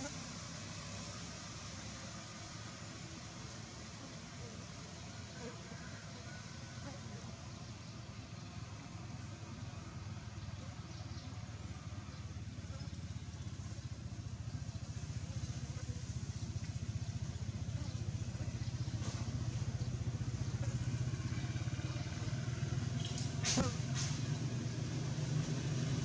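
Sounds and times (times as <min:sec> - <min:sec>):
motor engine running: 0:04.6 - 0:26.0.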